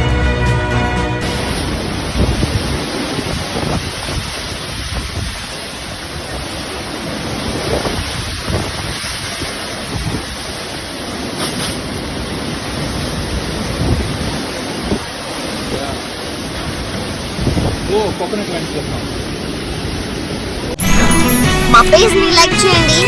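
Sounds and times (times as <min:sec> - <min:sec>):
wind buffeting microphone: 0:01.2 - 0:20.6
water rushing: 0:01.2 - 0:23.0.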